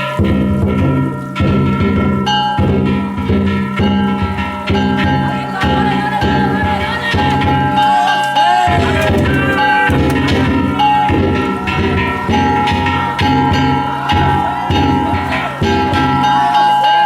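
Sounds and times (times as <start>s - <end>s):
metal gongs ringing: 0.0s - 17.0s
taiko drum beats: 0.0s - 17.0s.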